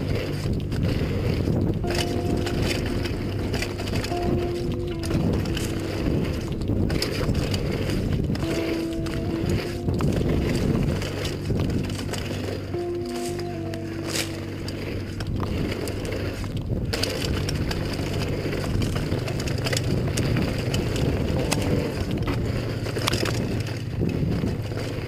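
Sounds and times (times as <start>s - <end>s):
bike rattling over bumps: 0.0s - 25.0s
bike tyres crunching over dirt: 0.0s - 25.0s.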